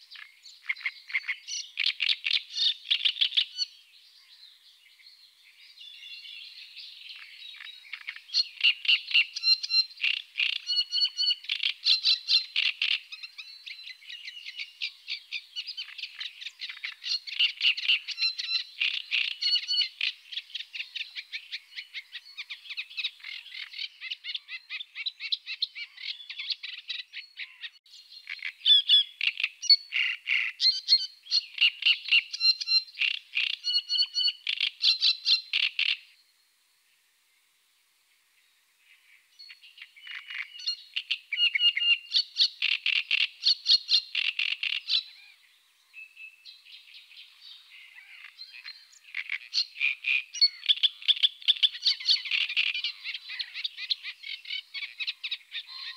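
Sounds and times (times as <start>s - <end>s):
reed warbler singing: 0.0s - 36.3s, 38.3s - 55.9s.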